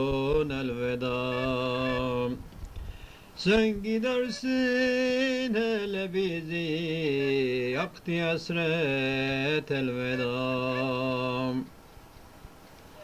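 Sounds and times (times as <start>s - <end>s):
man singing unaccompanied: 0.0s - 2.4s, 3.4s - 11.7s.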